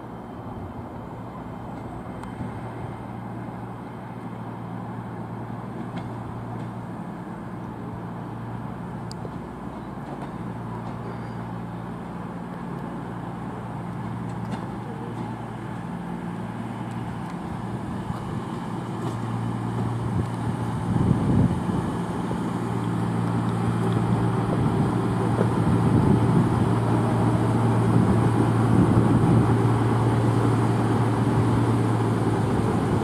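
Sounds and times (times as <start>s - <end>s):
train diesel engines droning: 0.0s - 33.0s.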